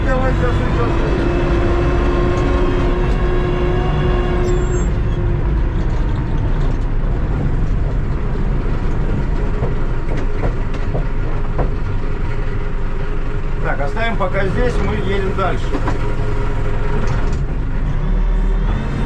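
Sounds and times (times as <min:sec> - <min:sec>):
diesel engine running: 0:00.0 - 0:19.0
engine whine: 0:00.0 - 0:19.0.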